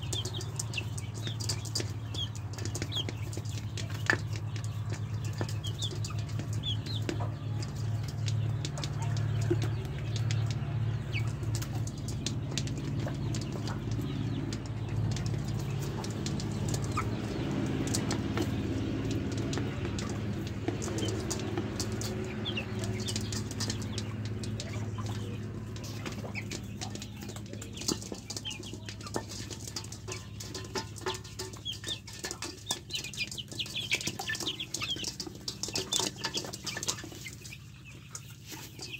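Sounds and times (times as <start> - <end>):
beaks pecking on metal bowl: 0.0 - 38.9
chicks clucking and peeping: 0.0 - 38.9.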